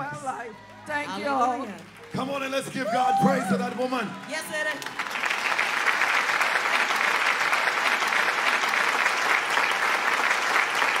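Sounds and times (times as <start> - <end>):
congregation applauding: 0.0 - 11.0.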